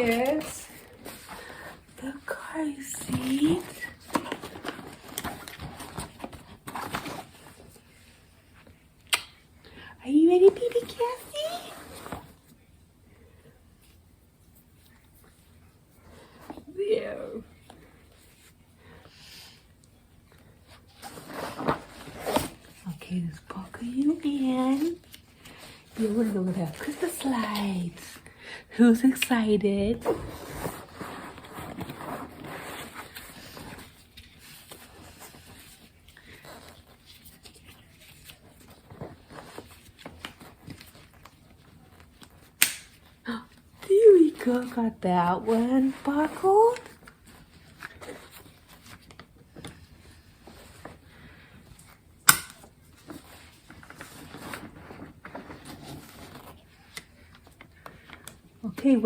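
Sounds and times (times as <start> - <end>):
straps and fabric rustling: 0.0 - 59.0.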